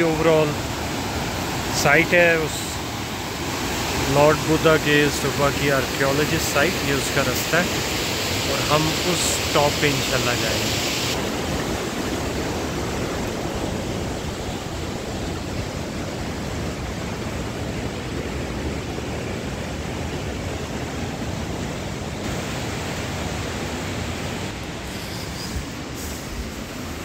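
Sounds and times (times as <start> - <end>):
rocky mountain stream rushing: 0.0 - 25.1.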